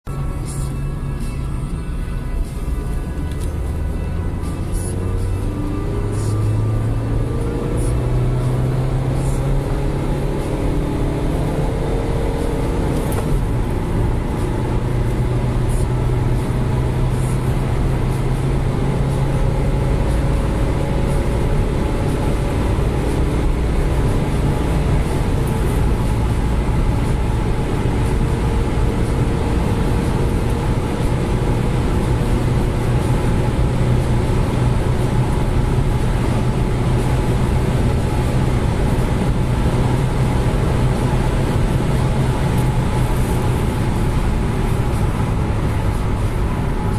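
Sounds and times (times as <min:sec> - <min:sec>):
diesel car engine accelerating: 0:00.0 - 0:46.9
road and tyre noise: 0:00.0 - 0:46.9.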